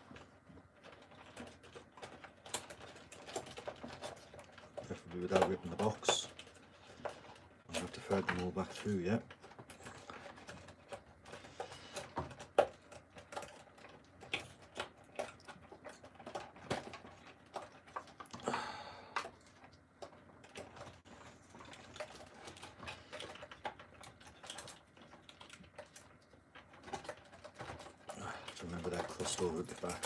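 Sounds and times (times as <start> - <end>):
packaging clicks and crinkles: 0.0 - 30.0.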